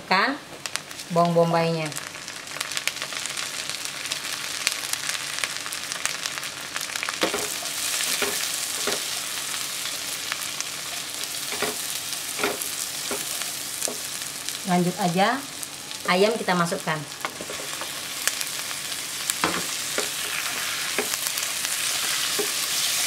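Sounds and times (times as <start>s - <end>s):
onion sizzling in oil: 0.1s - 23.0s.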